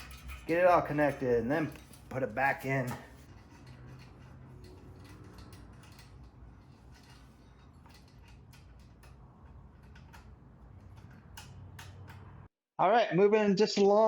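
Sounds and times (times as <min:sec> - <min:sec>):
small metal parts clicking: 0:00.0 - 0:12.5.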